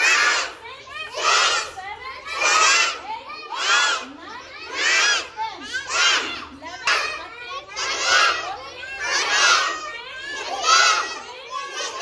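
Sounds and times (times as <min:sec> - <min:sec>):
children shouting in chorus: 0:00.0 - 0:12.0.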